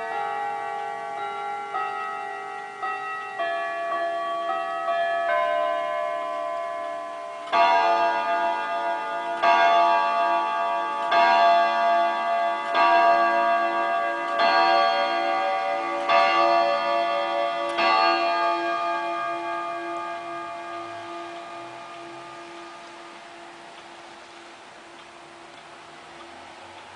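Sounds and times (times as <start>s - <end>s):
wall clock chiming: 0.0s - 26.9s.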